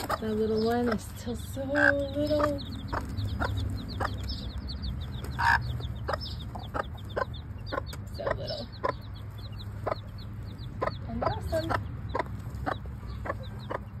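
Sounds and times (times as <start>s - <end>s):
chicks peeping: 0.0s - 14.0s
hen clucking: 0.0s - 14.0s.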